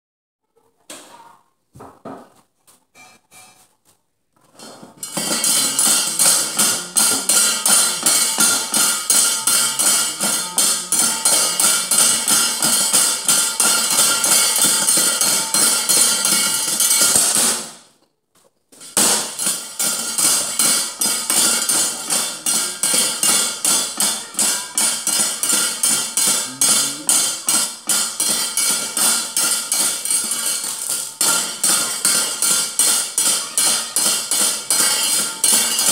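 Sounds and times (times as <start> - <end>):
gamelan percussion music: 5.0 - 17.8, 19.0 - 35.9.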